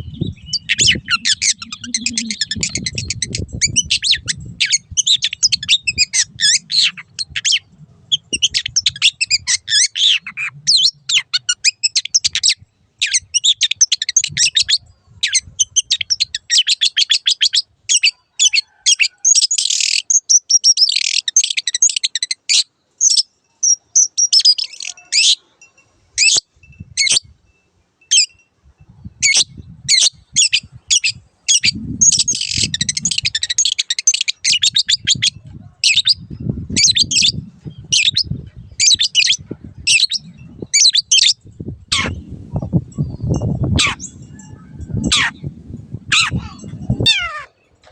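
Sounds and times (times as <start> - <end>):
bird singing chattering song: 0.0 - 25.4, 29.0 - 47.8.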